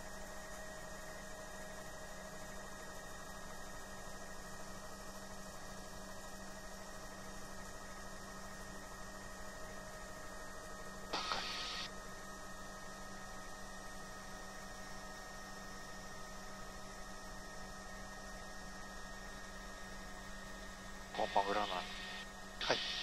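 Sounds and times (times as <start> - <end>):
helicopter engine and rotors: 0.0 - 23.0.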